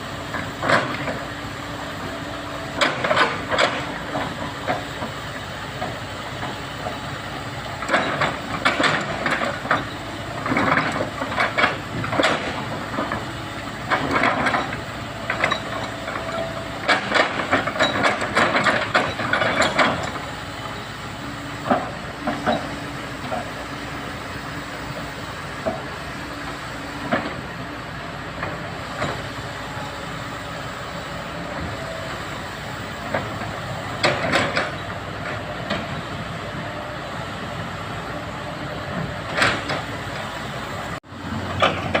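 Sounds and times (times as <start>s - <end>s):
excavator engine: 0.0s - 42.0s
rattling hissing digging noise: 0.0s - 42.0s.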